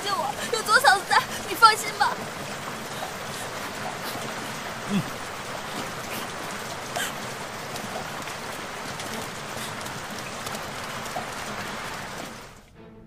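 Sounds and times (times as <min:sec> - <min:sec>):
heavy rain falling: 0:00.0 - 0:12.8.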